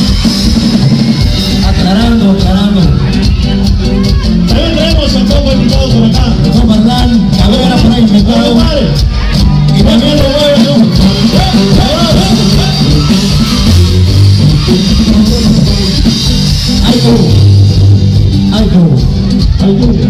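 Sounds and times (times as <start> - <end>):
live band playing: 0.0 - 20.0
low bass notes: 0.0 - 20.0.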